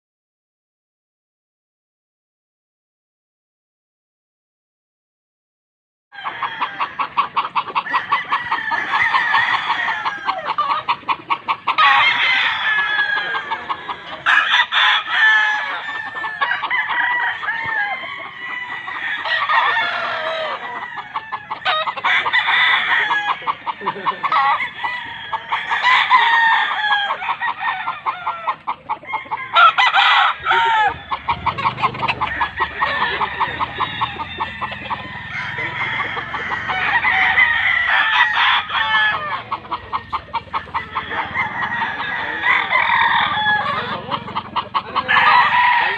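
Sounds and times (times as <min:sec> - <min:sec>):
roosters crowing: 0:06.1 - 0:45.9
chickens clucking: 0:06.2 - 0:45.9.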